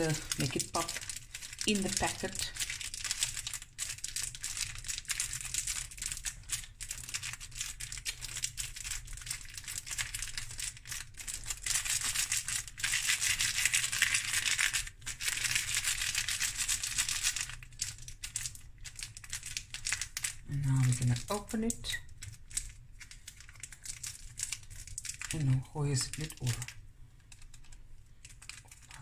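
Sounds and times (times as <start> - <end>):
chocolate crumbling: 0.0 - 29.0
plastic wrapper crinkling: 0.0 - 29.0.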